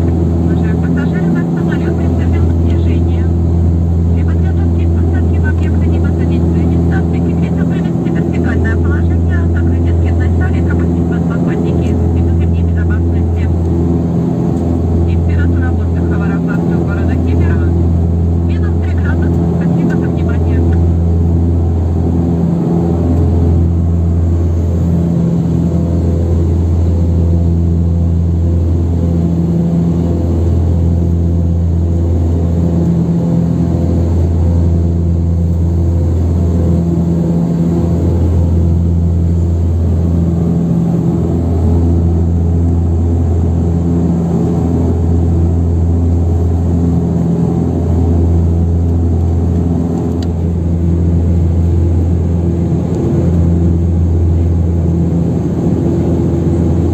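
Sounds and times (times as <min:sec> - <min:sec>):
turboprop cabin drone: 0:00.0 - 0:56.9.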